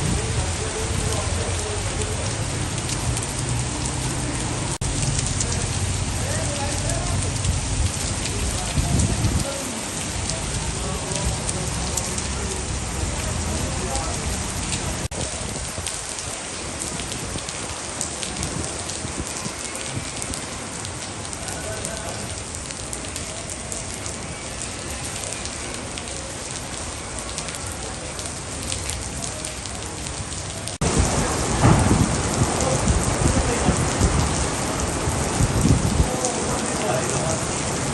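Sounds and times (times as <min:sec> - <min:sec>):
raindrops striking: 0:00.0 - 0:37.9
steady rainfall: 0:00.0 - 0:37.9.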